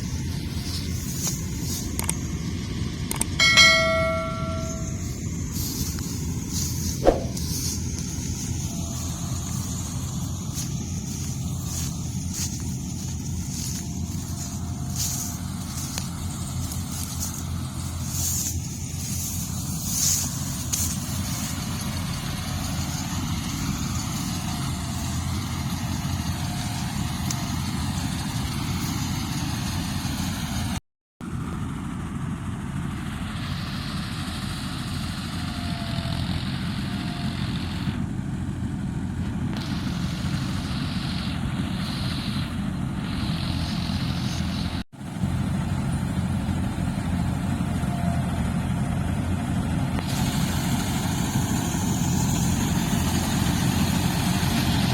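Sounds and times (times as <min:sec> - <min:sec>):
machinery engine droning: 0:00.0 - 0:54.9.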